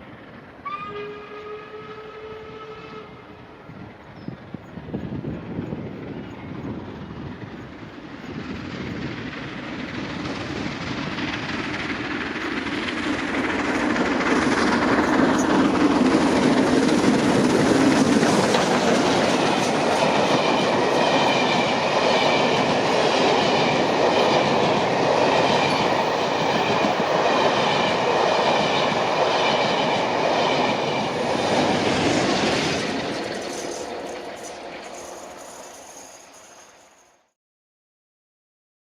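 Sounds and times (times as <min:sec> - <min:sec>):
steam train passing: 0:00.0 - 0:37.3
wheels clattering on rail joints: 0:04.1 - 0:37.0.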